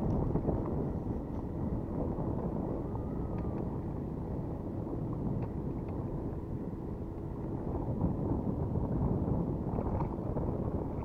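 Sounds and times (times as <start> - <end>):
choppy river water: 0.0 - 11.0
wind buffeting microphone: 0.0 - 11.0.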